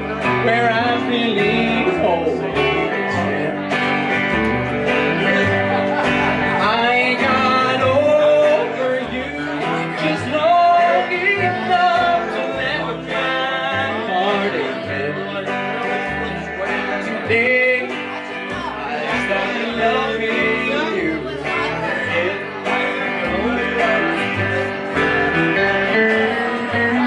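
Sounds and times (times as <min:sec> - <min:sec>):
electric guitar: 0:00.0 - 0:27.0
live country band: 0:00.0 - 0:27.0
upright double bass: 0:00.0 - 0:27.0.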